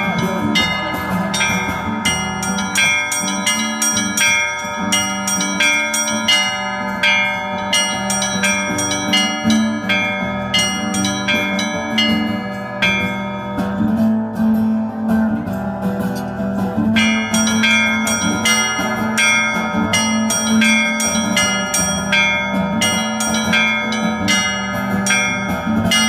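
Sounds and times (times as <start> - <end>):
low bell ringing tone: 0.0 - 15.0, 17.0 - 26.0
small church bells striking: 0.0 - 16.2, 16.9 - 26.0.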